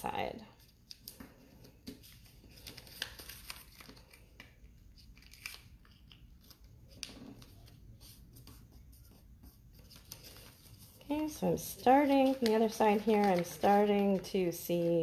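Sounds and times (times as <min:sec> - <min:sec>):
paper being folded and creased: 0:00.6 - 0:15.0.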